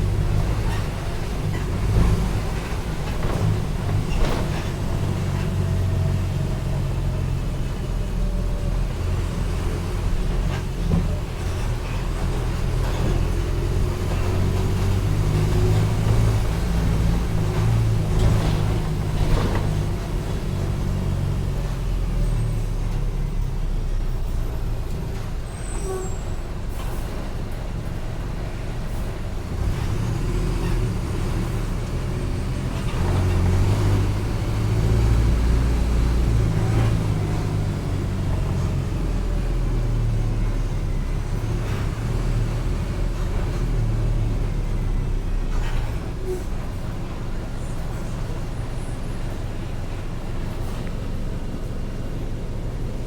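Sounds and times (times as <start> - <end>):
bus diesel engine rumbling: 0.0 - 53.0.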